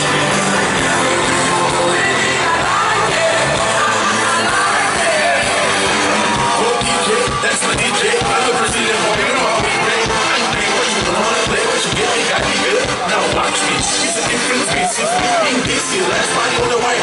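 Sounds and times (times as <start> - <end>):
live pop music with singing: 0.0 - 17.0.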